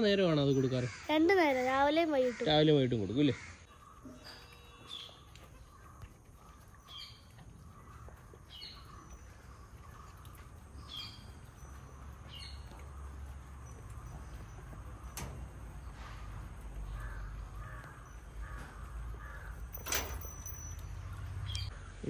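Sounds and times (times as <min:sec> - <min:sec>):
small bird chirping: 0:03.6 - 0:22.0.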